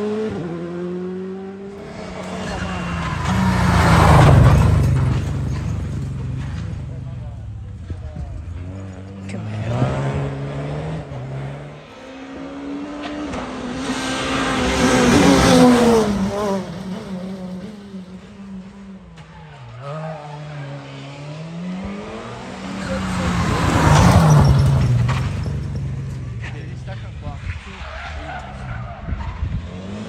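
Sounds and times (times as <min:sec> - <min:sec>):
rally car engine revving past: 0:00.0 - 0:18.9, 0:20.2 - 0:30.0.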